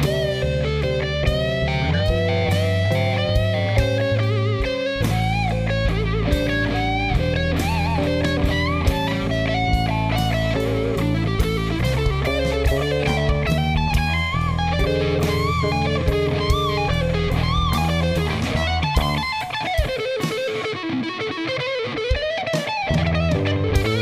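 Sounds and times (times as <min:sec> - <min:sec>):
bass guitar: 0:00.0 - 0:24.0
drums: 0:00.0 - 0:24.0
electric guitar soloing: 0:00.0 - 0:24.0.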